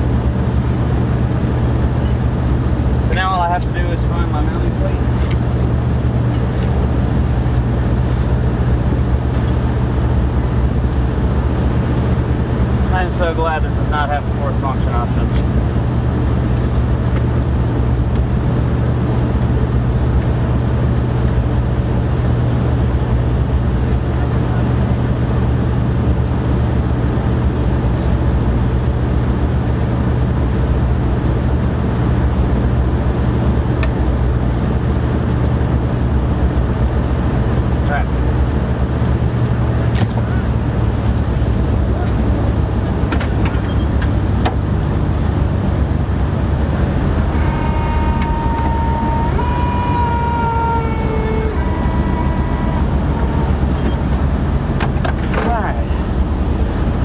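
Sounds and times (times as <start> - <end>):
low machine hum: 0.0 - 57.0
low mechanical drone: 0.0 - 57.0.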